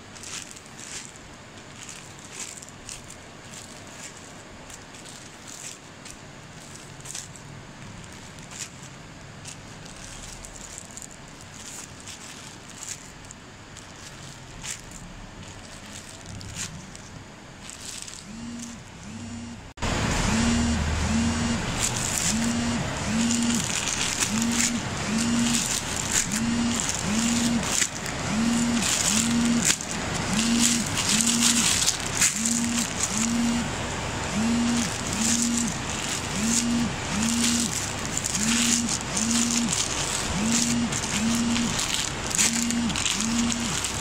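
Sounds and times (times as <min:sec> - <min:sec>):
plastic bags crinkling: 0:00.0 - 0:19.1, 0:20.8 - 0:44.0
low pulsing hum: 0:06.2 - 0:44.0.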